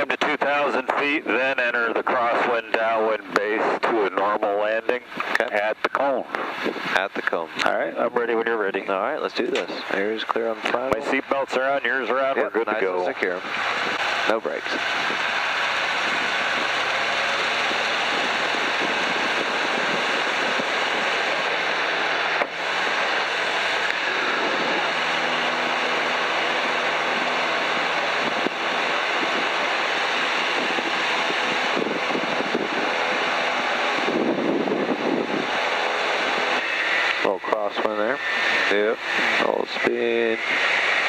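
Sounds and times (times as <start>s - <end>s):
airplane engine and propeller: 0.0s - 41.0s
wind rush on microphone: 0.0s - 41.0s.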